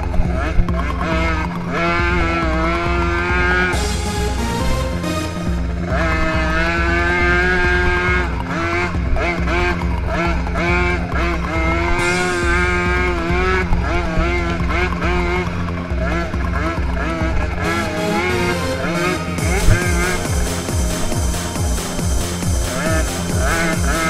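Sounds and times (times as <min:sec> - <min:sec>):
music with steady beat: 0:00.0 - 0:24.0.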